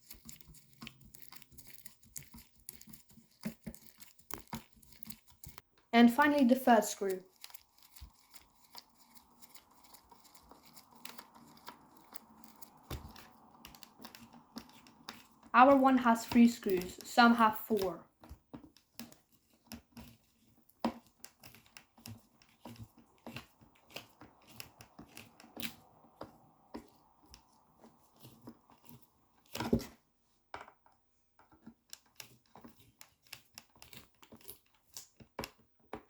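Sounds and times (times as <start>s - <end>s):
plastic parts clicking and tapping: 0.0s - 5.9s, 7.3s - 15.5s, 18.1s - 36.0s.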